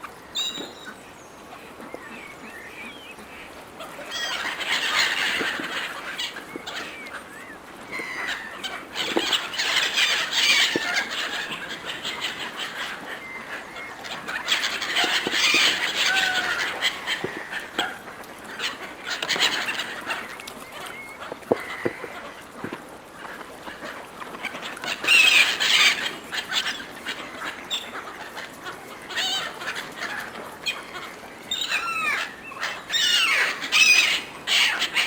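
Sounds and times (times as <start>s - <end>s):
gulls squabbling calls: 0.0s - 35.0s.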